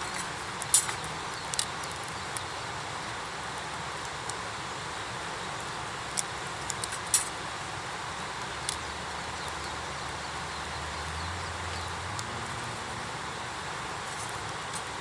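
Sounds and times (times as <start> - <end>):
campfire crackling and popping: 0.0 - 4.6, 5.2 - 7.6, 8.2 - 15.0.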